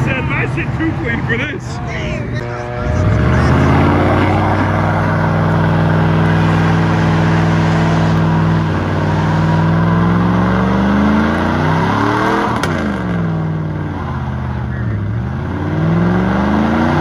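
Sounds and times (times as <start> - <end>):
car engine revving high: 0.0 - 17.0.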